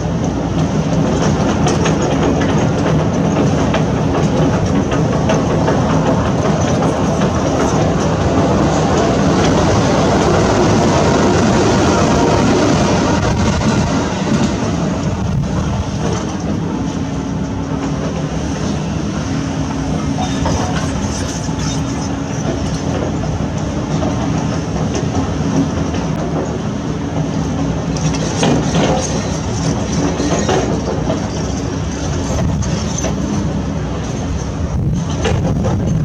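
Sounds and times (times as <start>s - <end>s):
excavator engine humming: 0.0s - 36.0s
rough loud machinery clatter: 0.2s - 16.8s, 19.7s - 36.0s.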